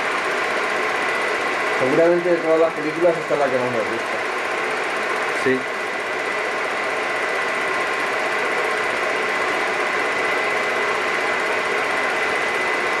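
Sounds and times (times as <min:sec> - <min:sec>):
film projector whirring and clattering: 0:00.0 - 0:13.0.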